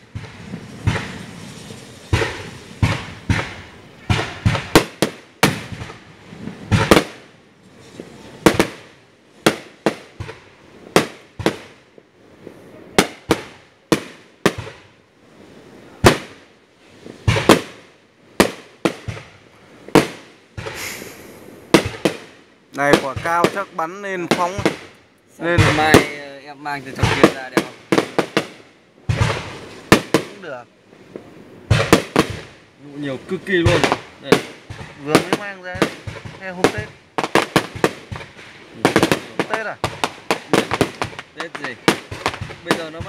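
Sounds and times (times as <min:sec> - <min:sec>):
fireworks bangs: 0:00.0 - 0:43.0.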